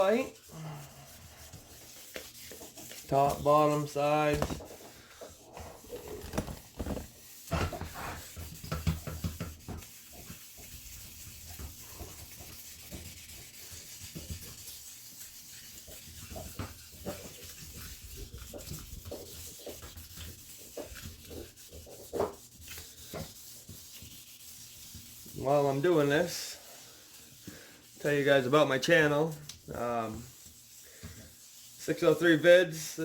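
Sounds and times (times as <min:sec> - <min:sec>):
wet sandpaper rubbing: 0:00.0 - 0:08.6, 0:09.2 - 0:33.0.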